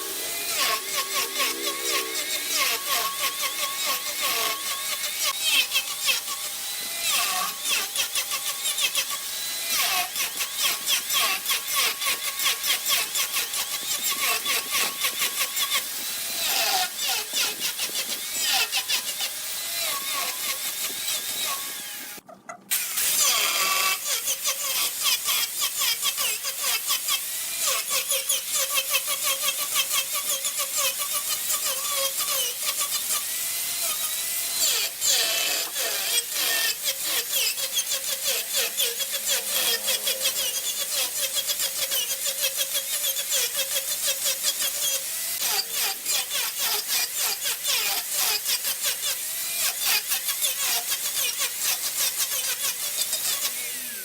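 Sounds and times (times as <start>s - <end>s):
turning tool scraping wood: 0.0s - 53.6s
wood lathe spinning: 0.0s - 54.0s.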